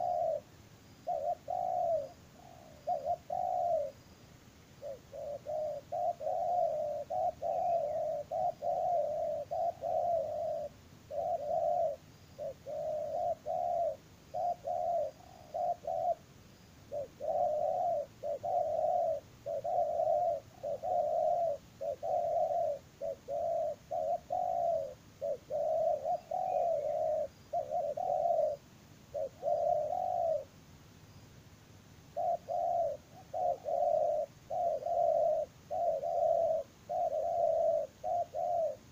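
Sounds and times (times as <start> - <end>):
dove cooing: 0.0 - 4.2, 4.8 - 30.6, 32.1 - 38.9.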